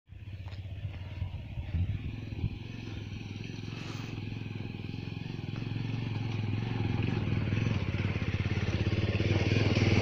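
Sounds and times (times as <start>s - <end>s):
motorcycle engine running: 0.1s - 10.0s.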